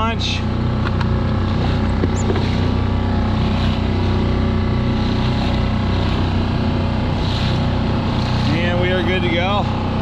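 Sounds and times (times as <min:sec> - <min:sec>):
outboard motor running: 0:00.0 - 0:10.0
water washing along hull: 0:00.1 - 0:10.0.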